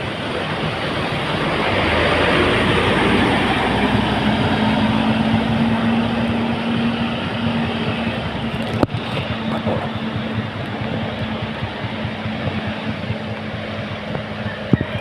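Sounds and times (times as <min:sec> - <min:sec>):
broad rushing noise: 0:00.0 - 0:15.0
engine drone: 0:00.0 - 0:15.0.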